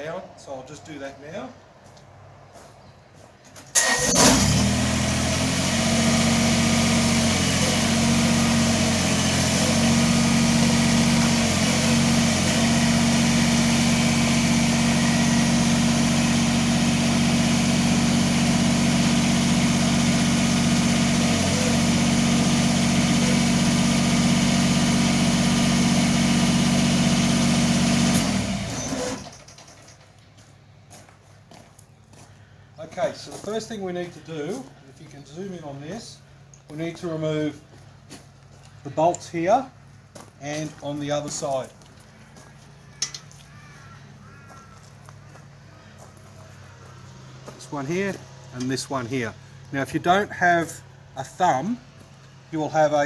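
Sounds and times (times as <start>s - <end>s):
tractor diesel engine running: 3.7s - 30.9s, 35.1s - 53.0s.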